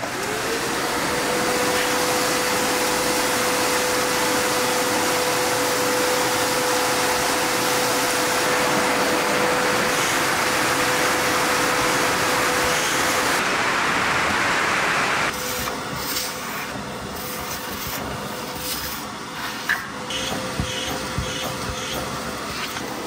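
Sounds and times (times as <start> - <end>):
shop vacuum whining: 0.0 - 23.0.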